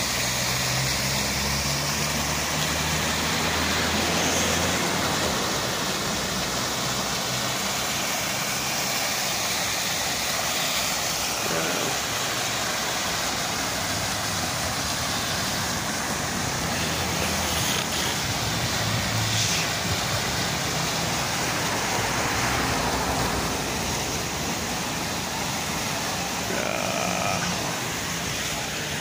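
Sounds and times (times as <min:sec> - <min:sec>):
fountain water splashing: 0:00.0 - 0:29.0
road traffic: 0:00.0 - 0:29.0.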